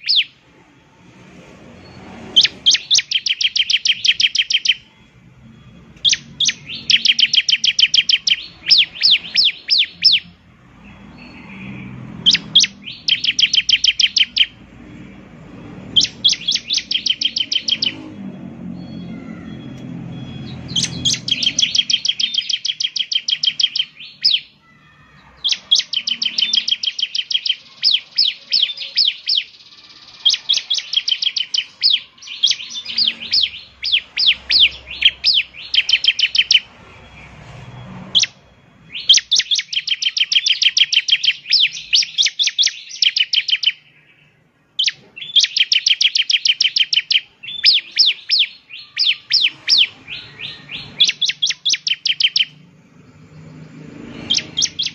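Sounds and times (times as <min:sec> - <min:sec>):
bird singing sharp high chirps: 0:00.0 - 0:54.9.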